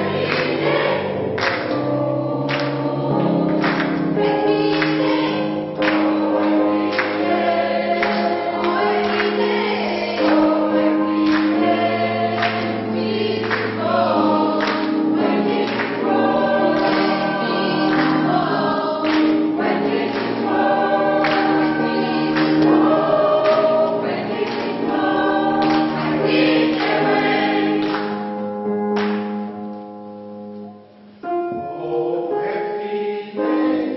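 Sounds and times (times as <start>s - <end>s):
choir singing gospel: 0.0s - 29.5s, 31.2s - 33.9s.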